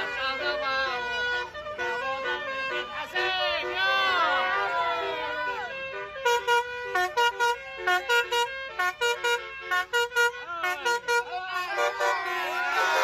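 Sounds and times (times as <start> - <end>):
multi-tone air horn melody: 0.0 - 13.0.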